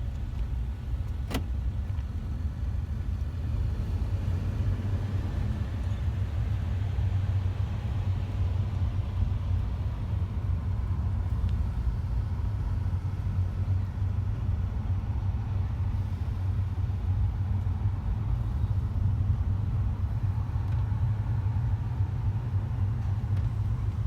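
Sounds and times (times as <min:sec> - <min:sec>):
vehicle engines idling: 0:00.0 - 0:24.0.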